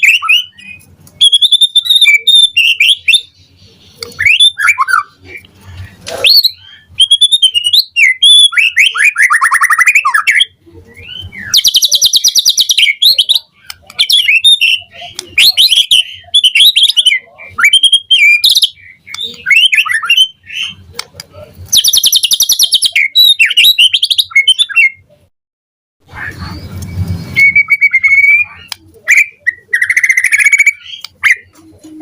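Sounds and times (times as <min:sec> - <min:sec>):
songbird singing whistled notes: 0:00.0 - 0:05.2, 0:06.3 - 0:20.8, 0:21.7 - 0:25.1, 0:26.4 - 0:31.6.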